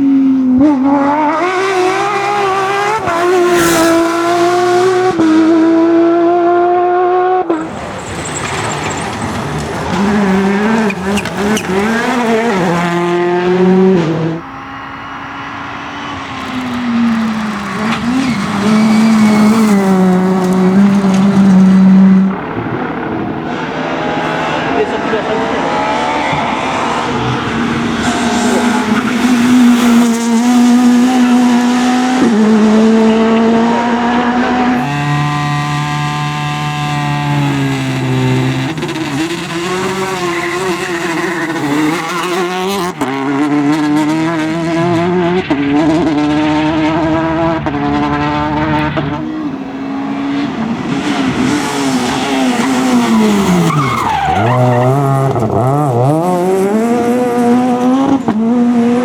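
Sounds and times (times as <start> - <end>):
rally car engines accelerating: 0.0 - 59.0.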